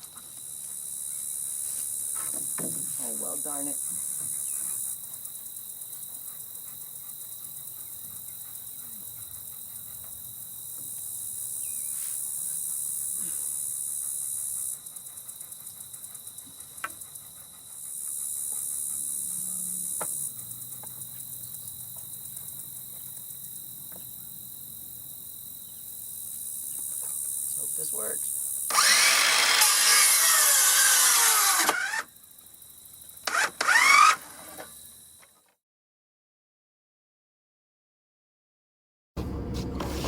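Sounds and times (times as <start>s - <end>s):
crickets trilling: 0.0s - 35.2s
buzzing insect chorus: 0.0s - 35.3s.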